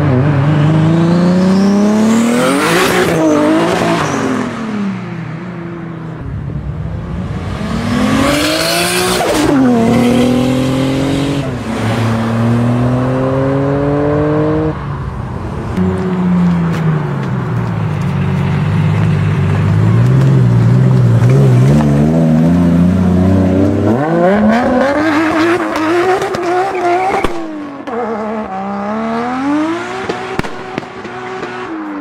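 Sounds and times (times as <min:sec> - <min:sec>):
car engine revving: 0:00.0 - 0:05.2, 0:06.2 - 0:14.9, 0:17.9 - 0:32.0.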